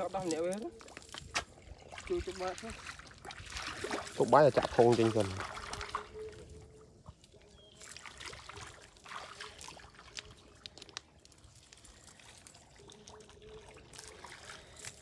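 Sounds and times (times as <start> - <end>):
water trickling and splashing in bucket: 0.0 - 15.0.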